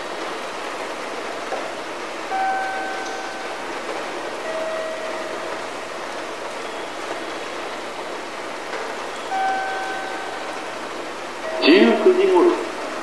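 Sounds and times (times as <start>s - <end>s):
steady rushing background noise: 0.0s - 13.0s
faint steady tones: 2.2s - 13.0s.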